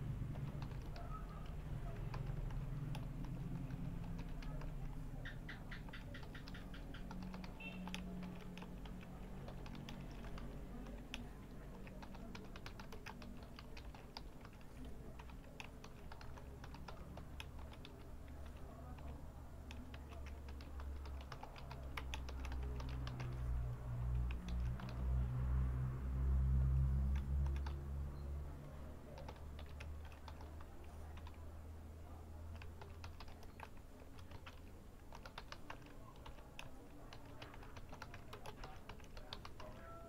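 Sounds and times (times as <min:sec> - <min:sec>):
keyboard typing: 0:00.0 - 0:25.3, 0:26.8 - 0:40.0.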